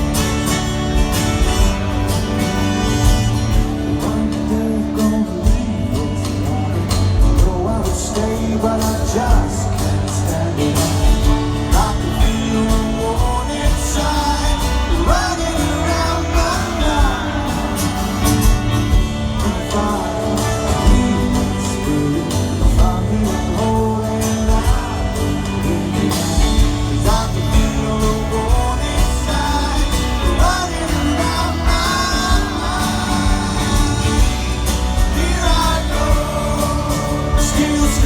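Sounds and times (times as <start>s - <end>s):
live rock band playing: 0.0s - 38.0s
person singing: 3.9s - 38.0s.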